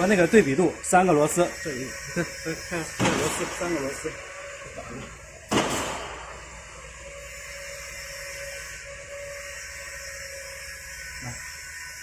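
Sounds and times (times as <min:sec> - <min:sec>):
machine hiss: 0:00.0 - 0:12.0.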